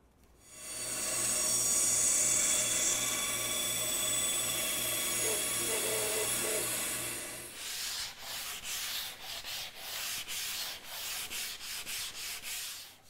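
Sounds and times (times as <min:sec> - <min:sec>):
bandsaw running: 0:00.4 - 0:13.0
sanding block rubbing wood: 0:00.5 - 0:13.0.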